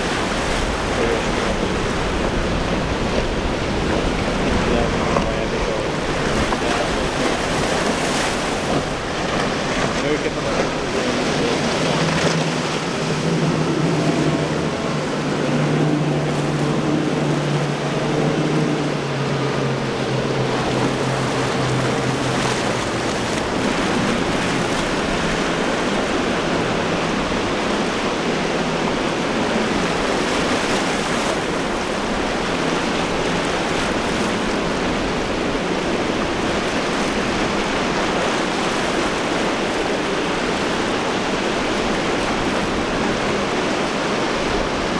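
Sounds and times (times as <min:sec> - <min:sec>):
outboard boat engines droning: 0:00.0 - 0:44.9
waves breaking: 0:00.0 - 0:44.9.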